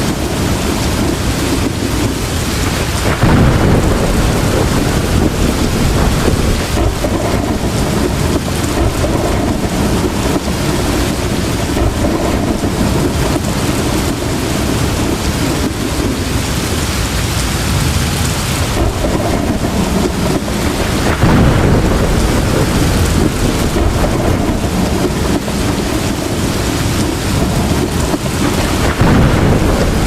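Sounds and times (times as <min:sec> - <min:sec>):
heavy rain pouring: 0:00.0 - 0:30.0
low thunder rumbling: 0:00.0 - 0:30.0.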